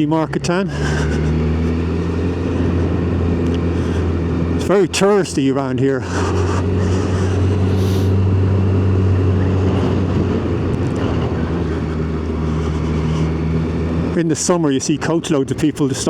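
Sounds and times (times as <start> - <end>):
motorcycle engine droning: 0.0 - 16.0
road and wind noise: 0.0 - 16.0.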